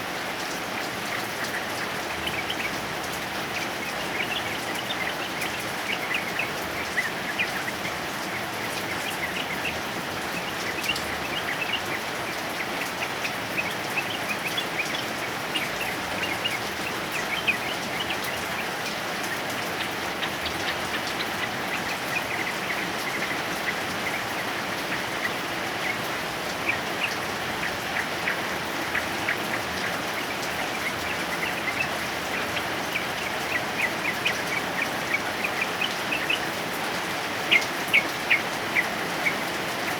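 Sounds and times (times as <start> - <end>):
heavy rain: 0.0 - 39.9
bird chirping: 0.8 - 39.9.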